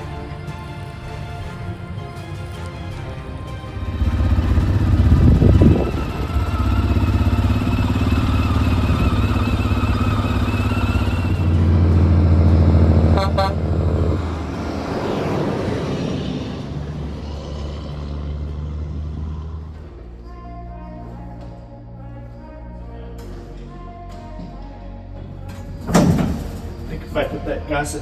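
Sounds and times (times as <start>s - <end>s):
heavy diesel engine running: 0.0s - 24.5s.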